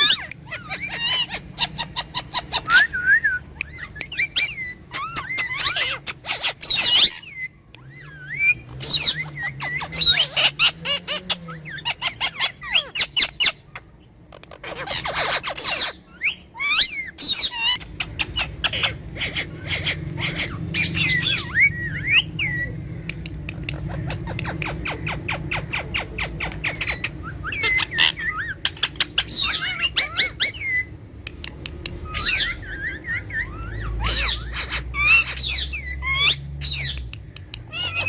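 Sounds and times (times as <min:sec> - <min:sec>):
parrots squawking: 0:00.0 - 0:38.0
parrots whistling: 0:00.0 - 0:38.0.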